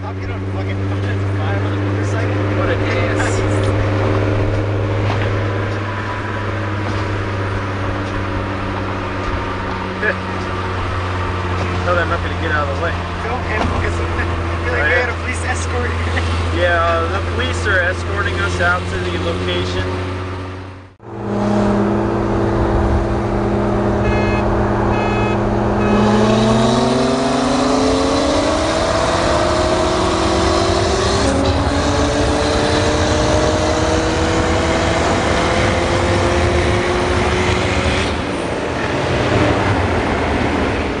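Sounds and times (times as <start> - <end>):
car engine accelerating: 0.0 - 41.0
road and wind noise: 0.0 - 41.0.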